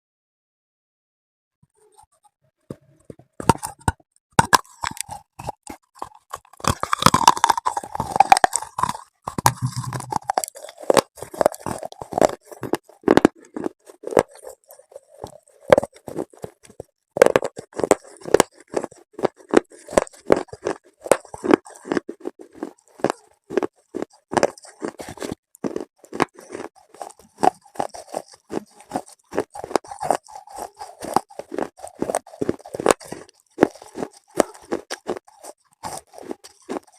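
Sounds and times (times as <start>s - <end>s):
crunchy chewing: 1.8s - 36.9s.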